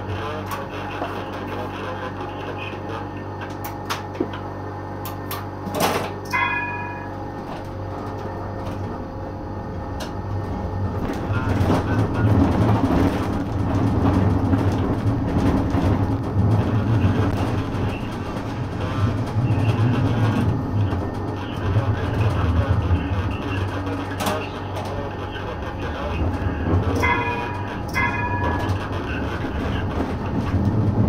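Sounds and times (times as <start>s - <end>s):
tram low hum: 0.0s - 31.0s
tram wheels rattling on rails: 5.0s - 31.0s.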